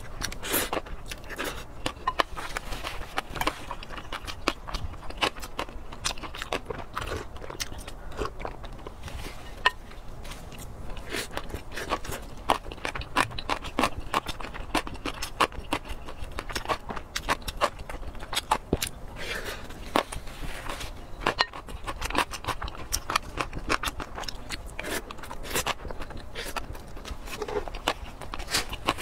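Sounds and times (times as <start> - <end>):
close chewing with mouth clicks: 0.0 - 29.0.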